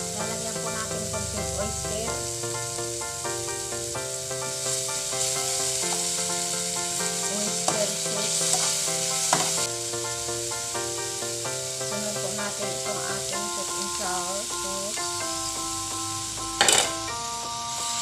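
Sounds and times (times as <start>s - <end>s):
background music with melody: 0.0s - 18.0s
carrots sizzling in a frying pan: 0.0s - 18.0s.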